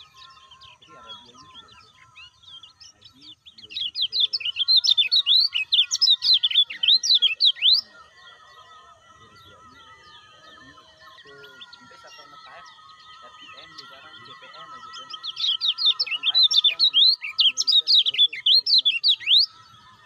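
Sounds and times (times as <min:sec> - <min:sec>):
bird singing high chirps: 0:00.0 - 0:20.0.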